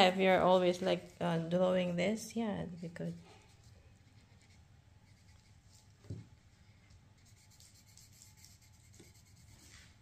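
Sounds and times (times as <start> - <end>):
marker stroking across paper: 0.1 - 6.0, 7.2 - 10.0.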